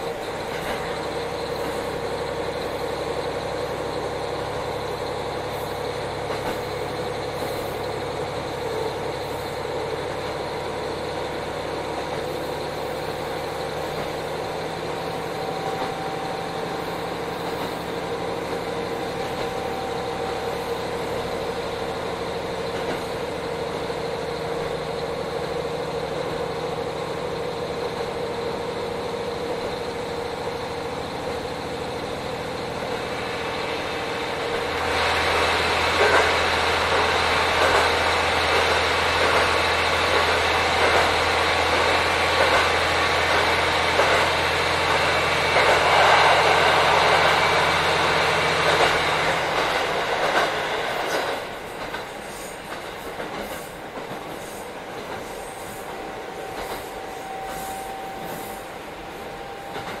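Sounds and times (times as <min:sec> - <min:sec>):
railcar diesel engine running: 0:00.0 - 1:00.0.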